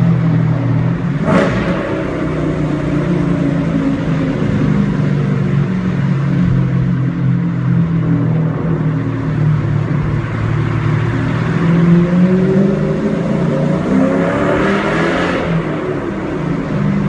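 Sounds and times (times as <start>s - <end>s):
car engine running loud: 0.0s - 17.0s.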